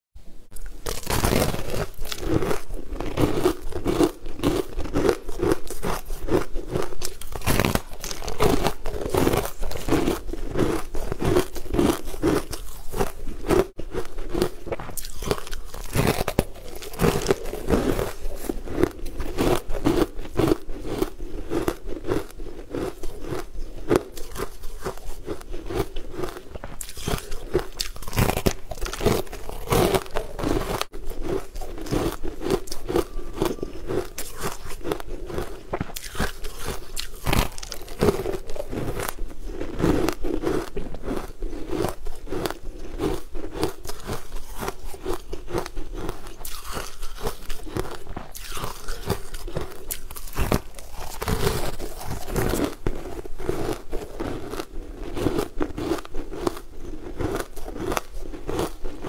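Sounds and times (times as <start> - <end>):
crunchy chewing: 0.5 - 59.0.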